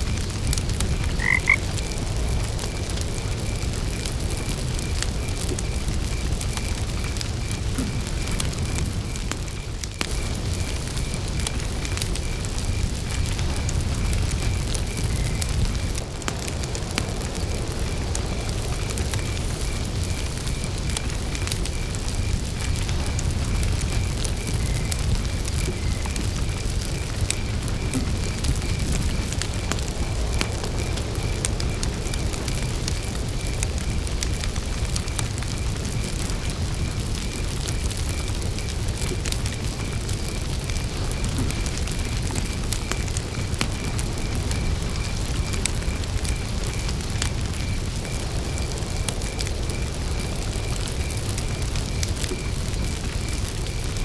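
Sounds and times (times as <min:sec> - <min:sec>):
campfire crackling and popping: 0:00.0 - 0:54.0
cricket chirping: 0:00.0 - 0:54.0.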